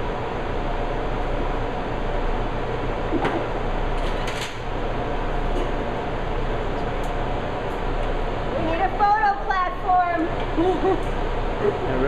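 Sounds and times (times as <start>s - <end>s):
ventilation fan hum: 0.0s - 12.0s.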